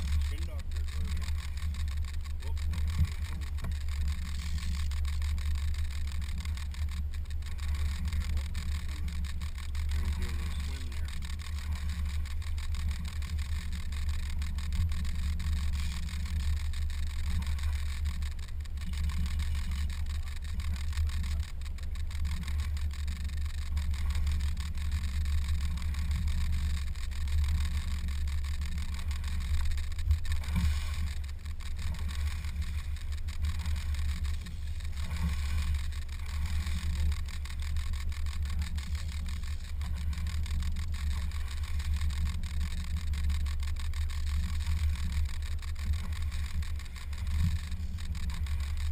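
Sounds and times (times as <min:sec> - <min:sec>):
boat motor rumbling: 0:00.0 - 0:48.9.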